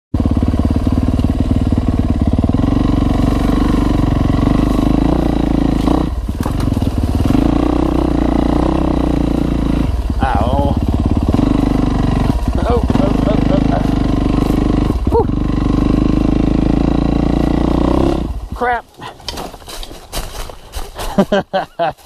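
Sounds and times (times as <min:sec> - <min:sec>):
dirt bike engine revving: 0:00.2 - 0:18.8.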